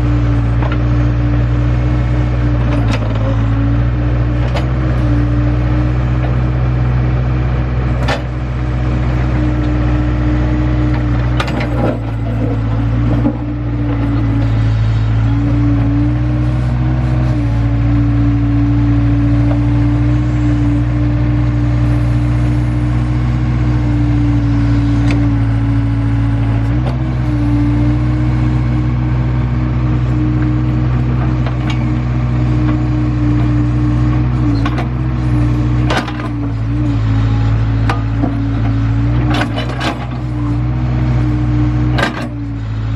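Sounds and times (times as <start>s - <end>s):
heavy machinery engine running: 0.0s - 42.9s.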